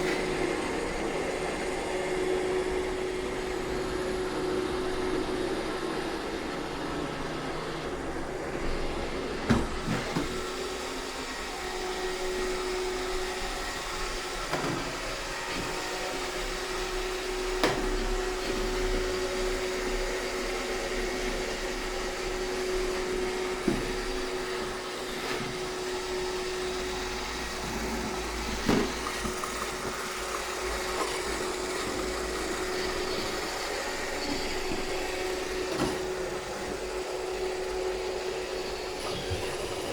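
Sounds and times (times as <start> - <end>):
robot vacuum motor whine: 0.0 - 39.9.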